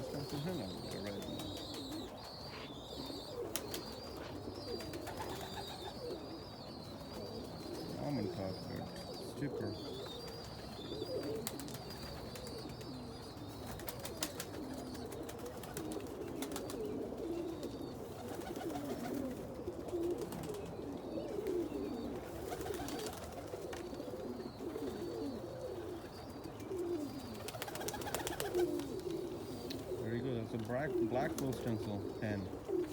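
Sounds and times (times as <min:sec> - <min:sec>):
pigeons cooing: 0:00.0 - 0:32.9.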